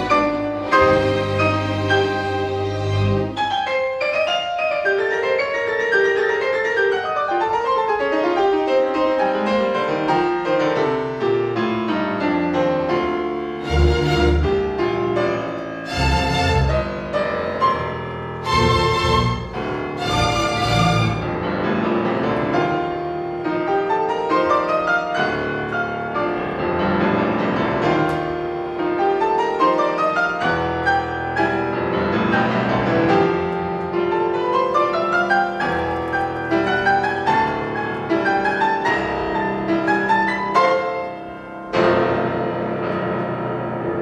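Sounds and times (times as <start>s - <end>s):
concert piano playing runs and chords: 0.0s - 44.0s.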